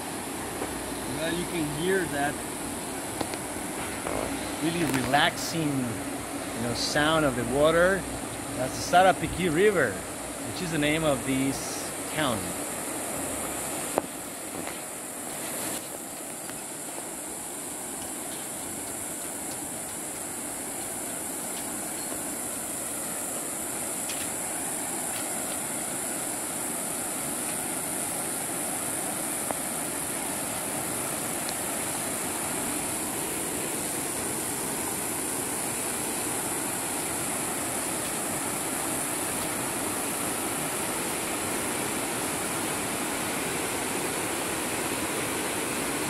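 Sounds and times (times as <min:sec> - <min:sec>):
high-pitched hiss: 0:00.0 - 0:46.0
river rapids rushing: 0:00.0 - 0:46.0.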